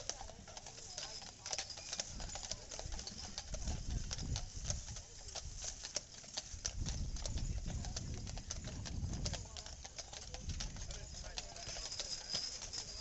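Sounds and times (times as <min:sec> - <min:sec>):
horse hooves clip-clopping on pavement: 0:00.0 - 0:13.0.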